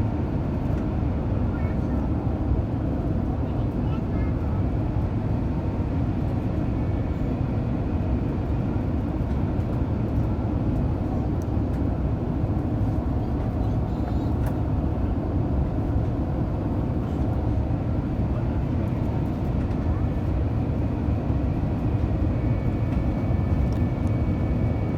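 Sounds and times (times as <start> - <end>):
jet engine rumble in cabin: 0.0 - 24.9.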